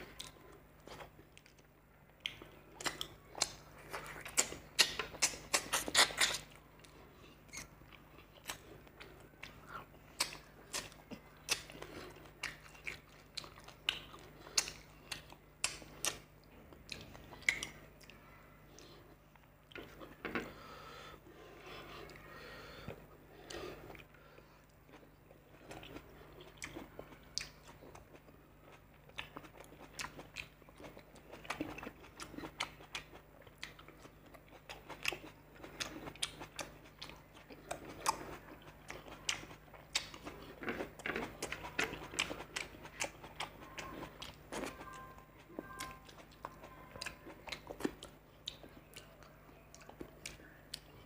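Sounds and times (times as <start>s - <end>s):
biting and chewing raw salad: 0.0s - 51.0s.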